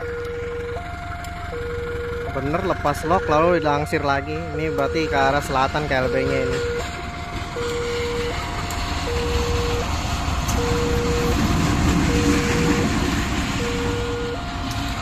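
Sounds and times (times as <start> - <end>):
level crossing two-note alarm: 0.0 - 11.4, 12.0 - 14.7
diesel locomotive engine rumbling: 0.0 - 15.0.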